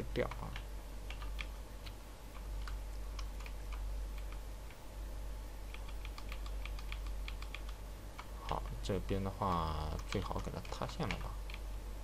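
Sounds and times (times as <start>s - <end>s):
low electrical hum: 0.0s - 12.0s
mouse and keyboard clicks: 0.2s - 4.8s, 5.7s - 8.8s, 9.5s - 11.6s.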